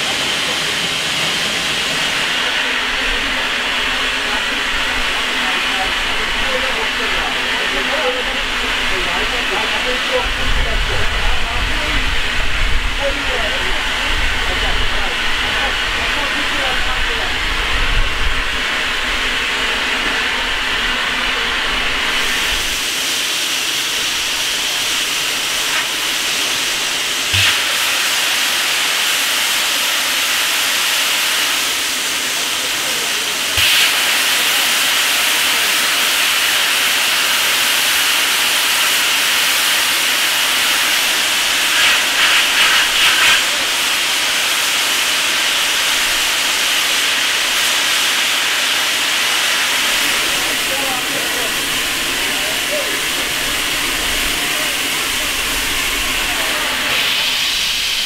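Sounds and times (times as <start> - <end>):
steam hissing from safety valves: 0.0 - 58.0.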